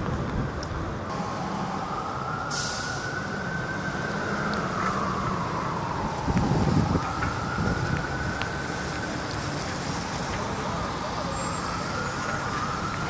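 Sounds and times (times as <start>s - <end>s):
bus engine rumble and whine: 0.0s - 13.0s
traffic on wet road: 0.0s - 13.0s.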